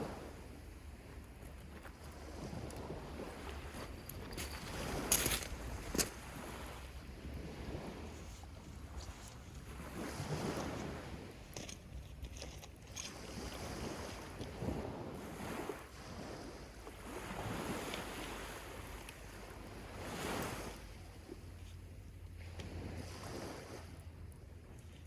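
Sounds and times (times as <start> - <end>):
waves breaking on beach: 0.0 - 25.0
wind rumble on microphone: 0.0 - 25.0.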